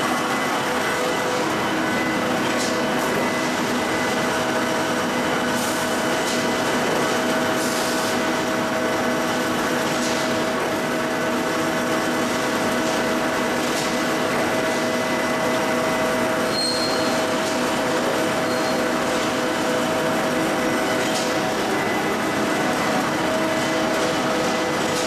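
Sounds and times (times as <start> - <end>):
constant machine whine: 0.0 - 25.0
machinery humming: 0.0 - 25.0.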